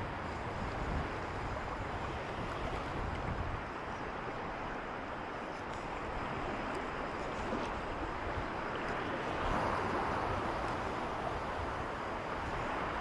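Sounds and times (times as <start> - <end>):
sea waves washing over reef: 0.0 - 13.0
wind on microphone: 0.0 - 13.0.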